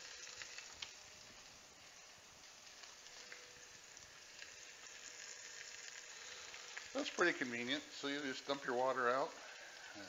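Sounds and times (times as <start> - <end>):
steak sizzling and crackling: 0.0 - 10.0.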